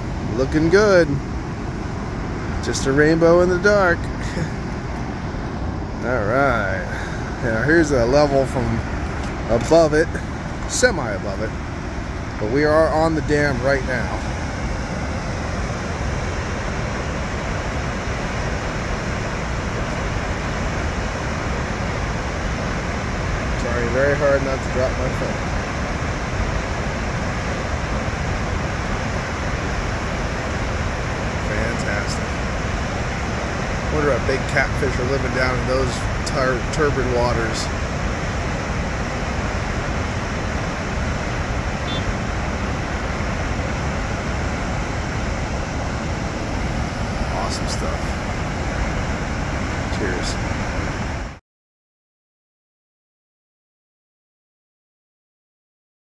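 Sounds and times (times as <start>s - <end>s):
water roaring from dam outlet: 0.0s - 51.4s.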